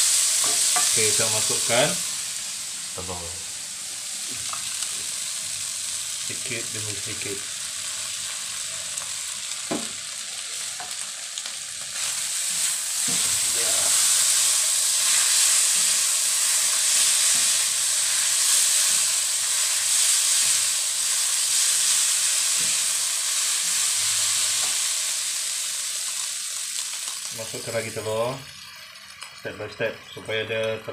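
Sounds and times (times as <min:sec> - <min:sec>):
noodles sizzling in a wok: 0:00.0 - 0:30.4.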